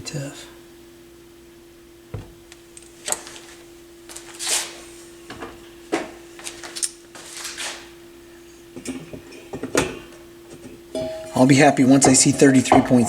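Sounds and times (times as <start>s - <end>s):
steady hum: 0.0s - 6.5s, 7.9s - 13.0s.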